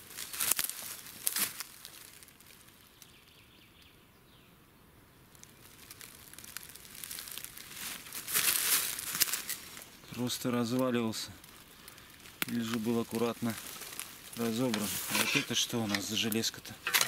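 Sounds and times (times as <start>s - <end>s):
dry grass and leaves crackling: 0.0s - 4.0s, 5.0s - 17.0s.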